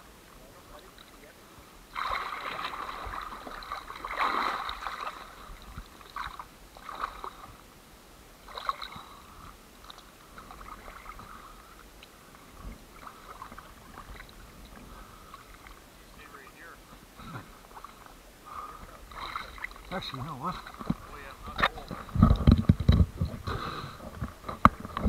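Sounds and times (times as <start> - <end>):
small waves splashing: 0.0 - 25.0.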